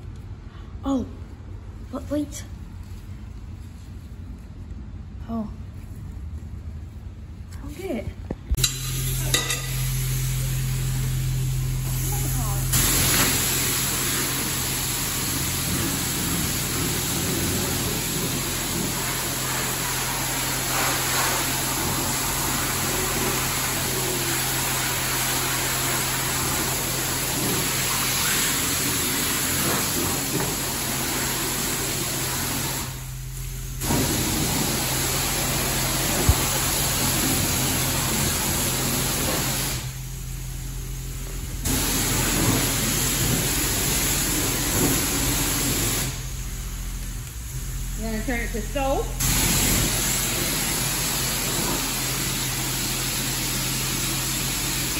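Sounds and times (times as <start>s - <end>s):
low machine hum: 0.0s - 54.9s
car wash water spray: 8.5s - 54.9s.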